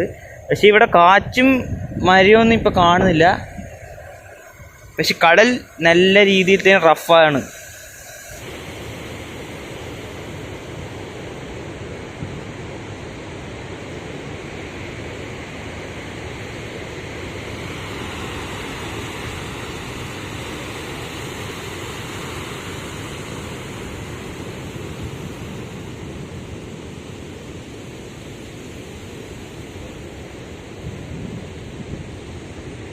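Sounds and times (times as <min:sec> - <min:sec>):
waves breaking on shore: 0:00.0 - 0:32.9.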